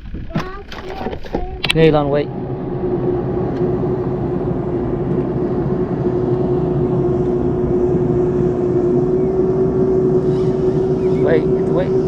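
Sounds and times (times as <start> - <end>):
boat engine humming: 0.7 - 12.0.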